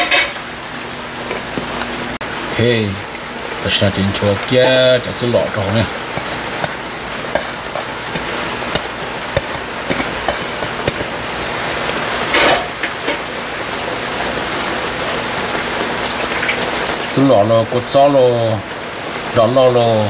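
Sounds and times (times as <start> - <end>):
meat sizzling in a pot: 2.6 - 19.4.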